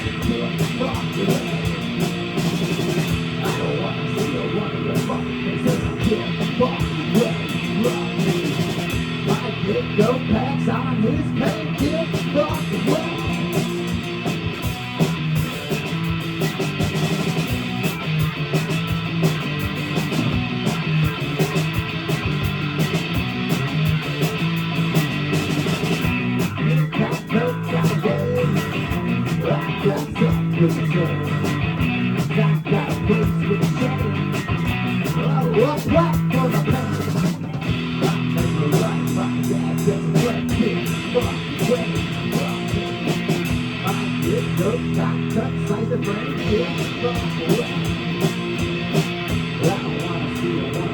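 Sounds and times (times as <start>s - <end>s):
distorted electric guitar: 0.0s - 50.9s
drum kit steady beat: 0.0s - 50.9s.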